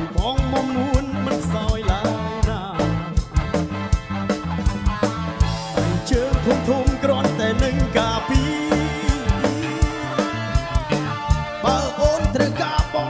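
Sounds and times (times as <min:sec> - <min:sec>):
song with singing voice: 0:00.0 - 0:03.5, 0:05.4 - 0:13.0
drum beat and bass: 0:00.0 - 0:13.0.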